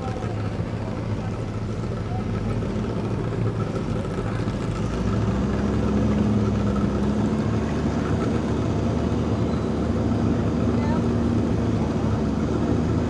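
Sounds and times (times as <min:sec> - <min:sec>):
boat engines idling: 0:00.0 - 0:13.0.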